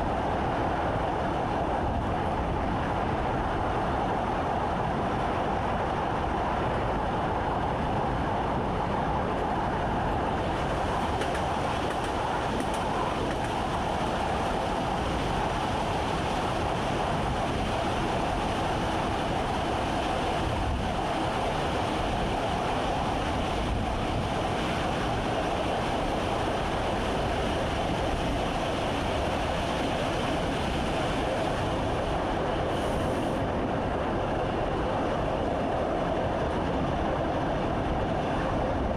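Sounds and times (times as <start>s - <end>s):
rumble of wheels and track: 0.0s - 38.9s.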